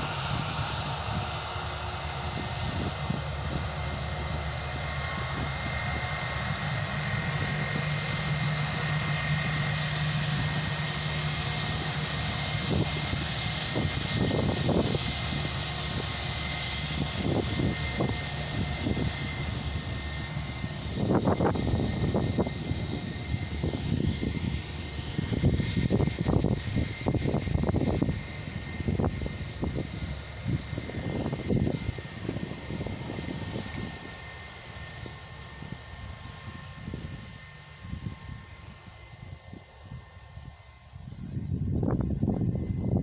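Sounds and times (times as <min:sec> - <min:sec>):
jet engines roaring with whine: 0:00.0 - 0:43.0
wind buffeting microphone: 0:00.0 - 0:43.0.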